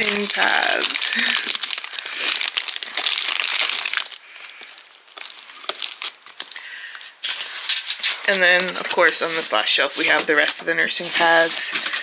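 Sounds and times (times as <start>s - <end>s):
crinkly packaging handled: 0.0s - 12.0s.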